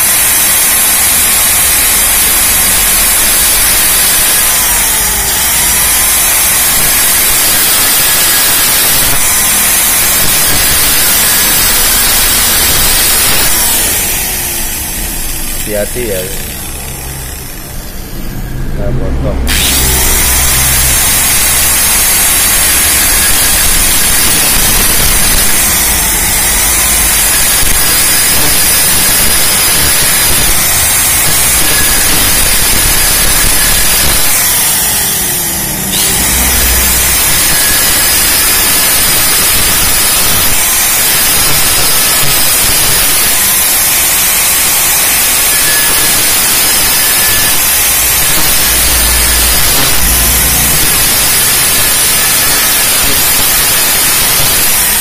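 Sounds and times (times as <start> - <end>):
angle grinder cutting metal: 0.0 - 55.0.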